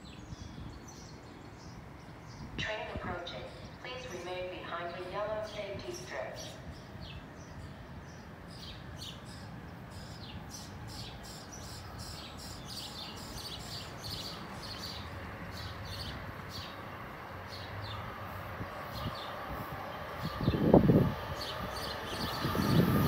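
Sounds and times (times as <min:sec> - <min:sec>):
small birds chirping: 0:00.0 - 0:04.7, 0:05.4 - 0:23.0.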